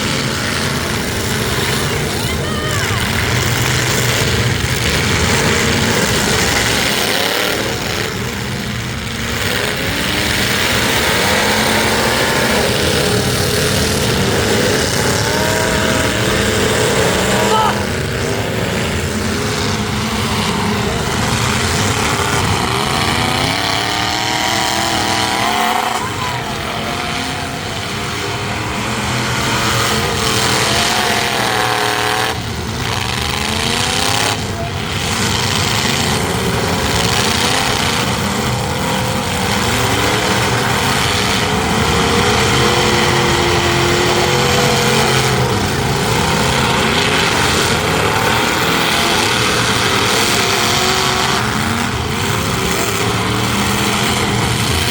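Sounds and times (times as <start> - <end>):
truck engines revving: 0.0 - 54.9.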